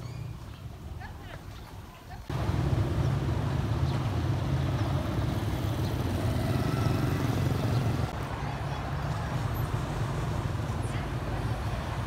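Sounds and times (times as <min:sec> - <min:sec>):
street traffic rumble: 0:00.0 - 0:12.0
motorbikes riding past: 0:02.3 - 0:12.0.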